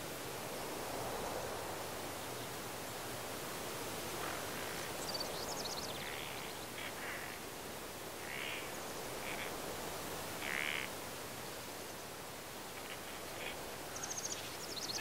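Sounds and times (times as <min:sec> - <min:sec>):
wind hiss: 0:00.0 - 0:15.0.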